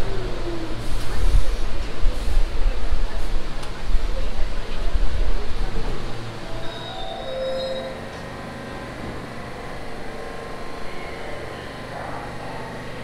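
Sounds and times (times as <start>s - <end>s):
subway train equipment humming: 0.0s - 13.0s.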